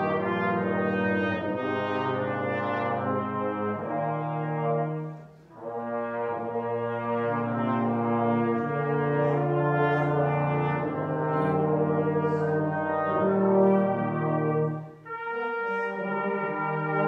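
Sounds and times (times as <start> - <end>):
brass quartet playing carol: 0.0 - 17.0.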